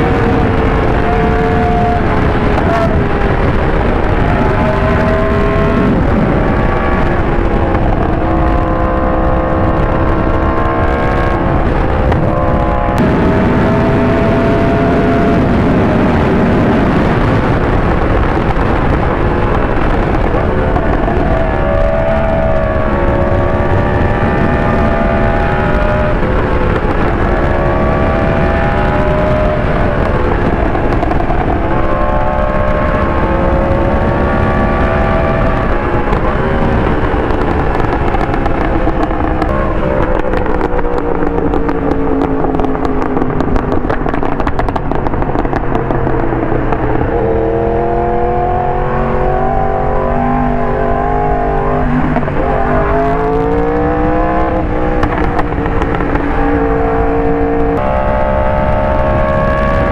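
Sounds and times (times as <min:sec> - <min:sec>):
exhaust pops and bangs: 0:00.0 - 0:59.9
motorcycle engine accelerating: 0:00.0 - 0:59.9.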